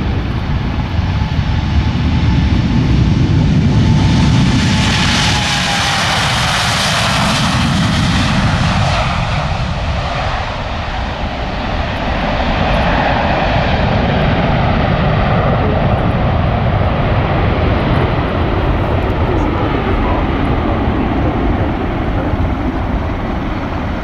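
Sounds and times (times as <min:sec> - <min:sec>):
jet airliner roar at takeoff: 0:00.0 - 0:24.0.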